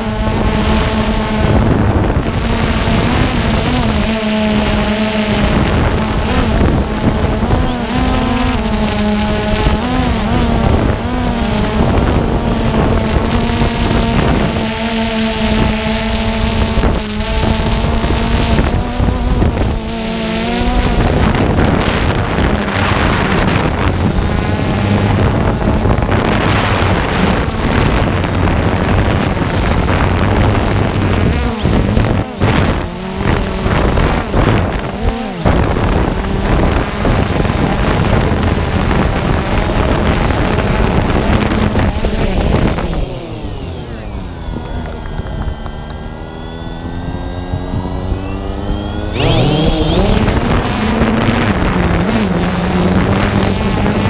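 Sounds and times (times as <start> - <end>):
drone propellers whirring: 0.0 - 54.0
wind rushing over microphone: 0.0 - 54.0.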